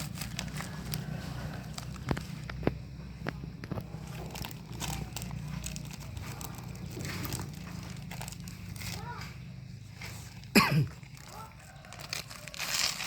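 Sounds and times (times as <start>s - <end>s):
crinkling and sharp clicks: 0.0s - 13.0s.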